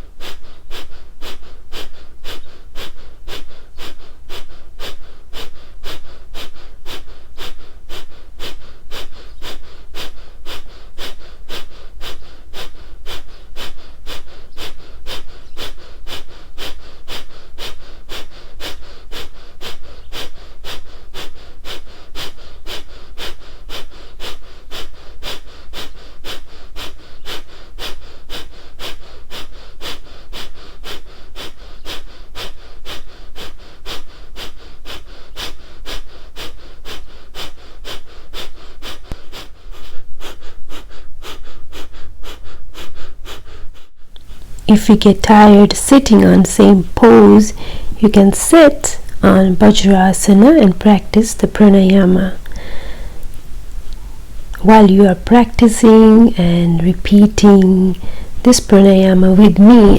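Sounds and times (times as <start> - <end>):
forceful nasal exhalations: 0.0 - 59.9.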